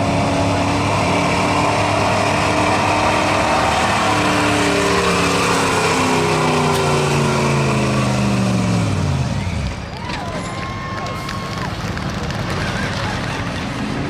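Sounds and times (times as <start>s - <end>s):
truck engine at high revs: 0.0s - 14.0s.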